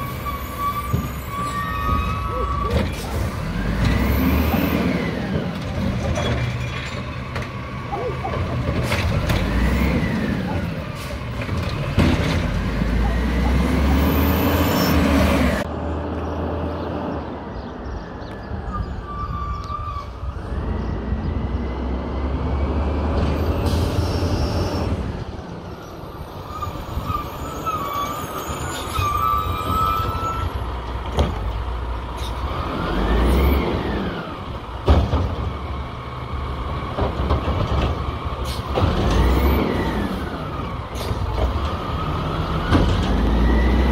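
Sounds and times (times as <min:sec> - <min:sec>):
diesel engine revving: 0:00.0 - 0:17.6, 0:20.1 - 0:28.6, 0:30.1 - 0:43.9.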